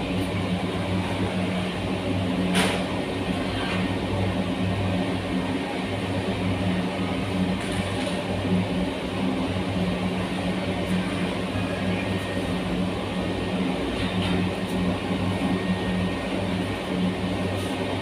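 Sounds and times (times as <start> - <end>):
furnace burner humming and rushing: 0.0 - 18.0.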